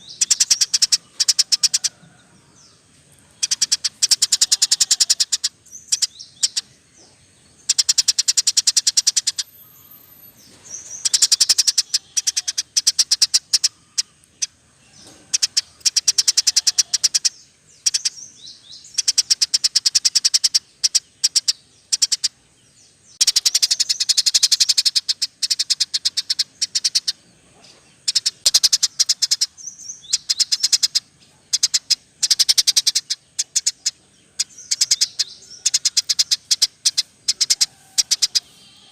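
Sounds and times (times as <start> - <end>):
small songbirds chirping and trilling: 0.0 - 38.9.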